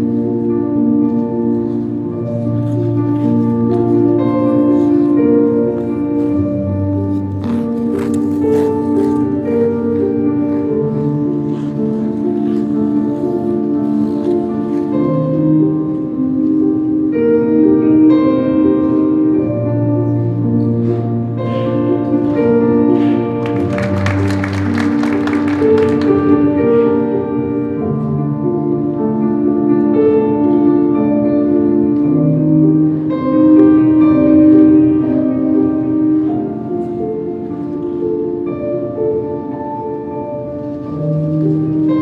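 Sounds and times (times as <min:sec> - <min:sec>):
slow instrumental music: 0:00.0 - 0:42.0.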